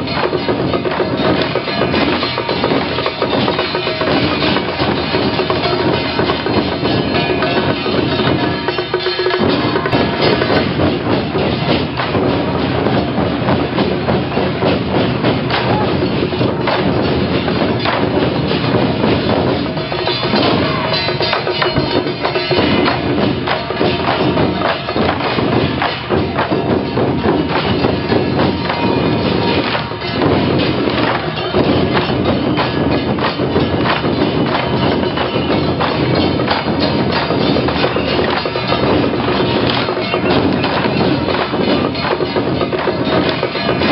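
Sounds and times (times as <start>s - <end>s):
drums and metal percussion: 0.0s - 43.9s
steady din: 0.0s - 43.9s.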